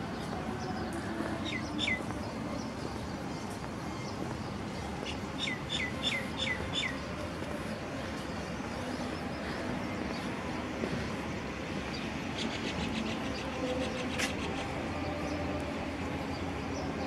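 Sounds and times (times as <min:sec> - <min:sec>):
outdoor background hum: 0:00.0 - 0:17.0.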